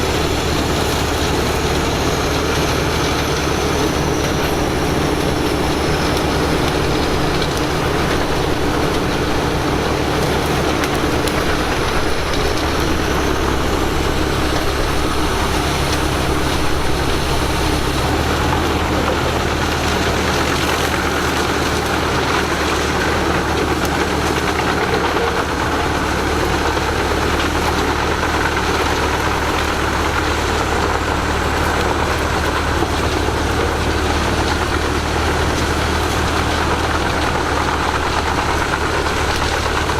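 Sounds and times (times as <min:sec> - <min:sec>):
heavy diesel machinery humming: 0:00.0 - 0:39.9.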